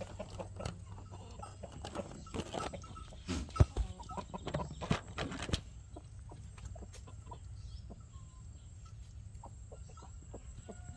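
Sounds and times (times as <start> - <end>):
chickens clucking: 0.0 - 10.9.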